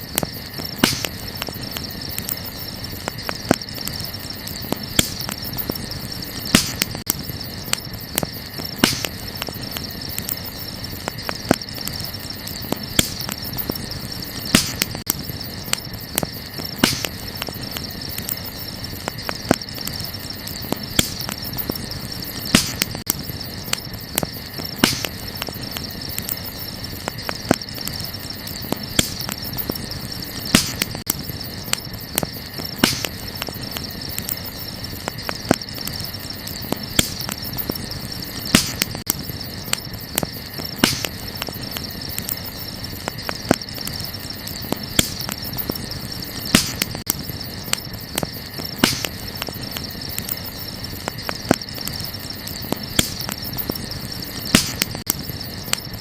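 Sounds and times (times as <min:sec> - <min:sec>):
crickets chirping: 0:00.0 - 0:56.0
wood fire crackling and popping: 0:00.0 - 0:56.0.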